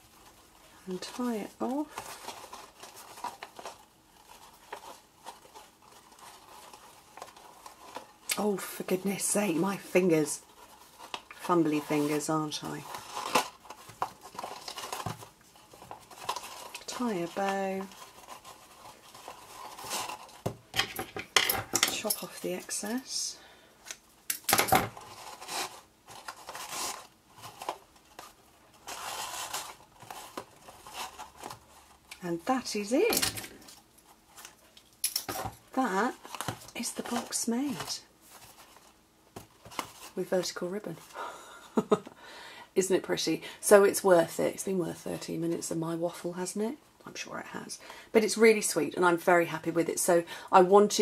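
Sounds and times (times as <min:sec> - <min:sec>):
ribbon rustling: 0:00.0 - 0:41.2.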